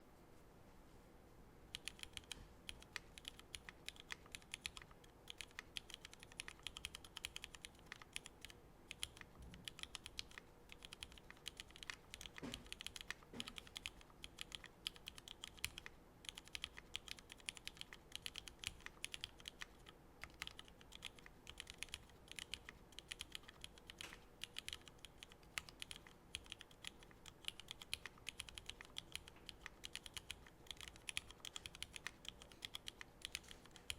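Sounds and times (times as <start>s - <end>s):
mechanical keyboard typing: 1.7s - 33.9s.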